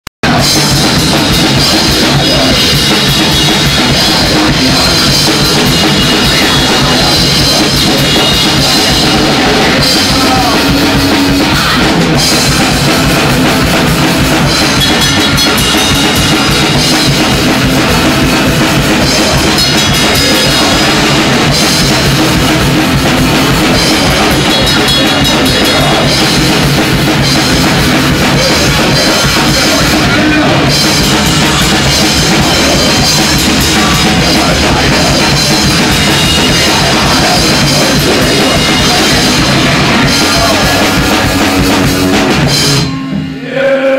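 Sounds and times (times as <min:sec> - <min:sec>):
rock band playing: 0:00.2 - 0:43.9.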